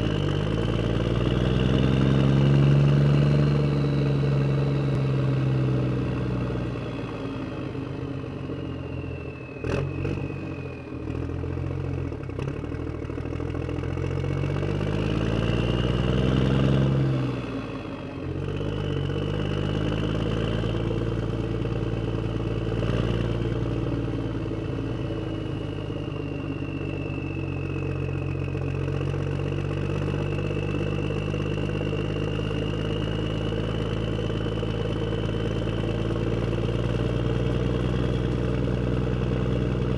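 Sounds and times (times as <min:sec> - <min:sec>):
vehicle engine running and revving: 0:00.0 - 0:39.9.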